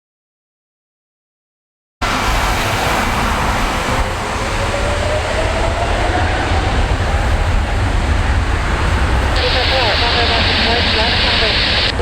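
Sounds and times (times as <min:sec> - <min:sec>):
jet engines rumbling: 0:02.0 - 0:12.0.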